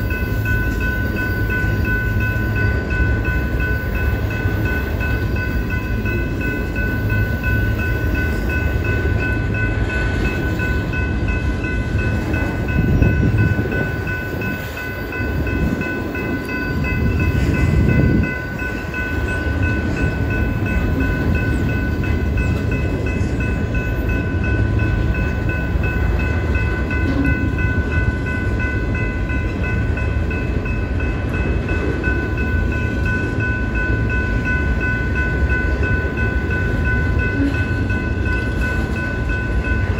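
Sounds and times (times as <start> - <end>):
crossing signal ringing: 0.0 - 39.9
train wheels rumbling on rail: 0.0 - 39.9.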